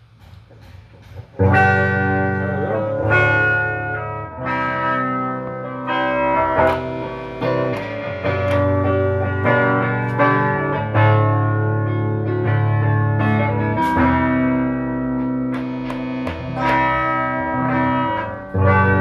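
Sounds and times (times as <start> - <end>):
electric guitar chords ringing: 1.4 - 19.0.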